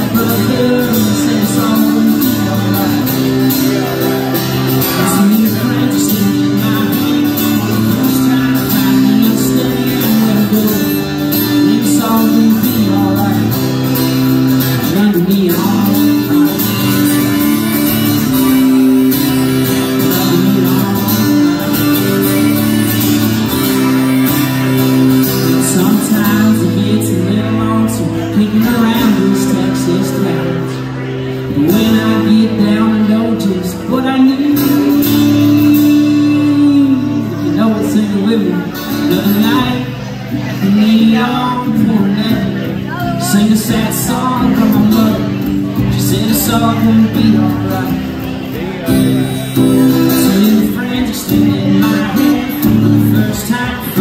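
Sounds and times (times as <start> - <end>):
acoustic guitar chords: 0.0 - 54.0
man singing: 0.0 - 54.0.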